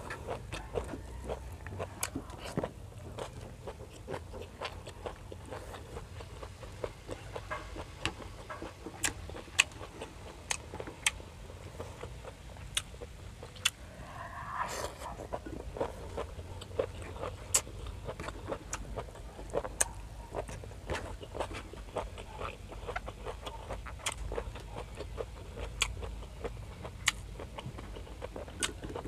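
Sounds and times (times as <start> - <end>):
close chewing crunches: 0.0 - 14.4, 15.0 - 29.0.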